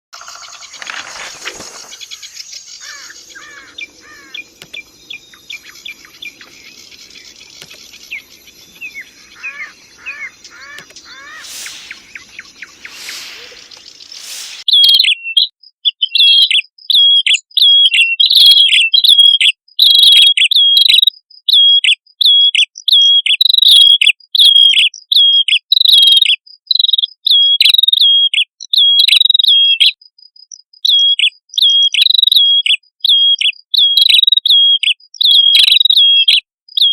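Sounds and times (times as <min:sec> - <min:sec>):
bird chirping: 0:00.2 - 0:30.0, 0:30.8 - 0:36.9.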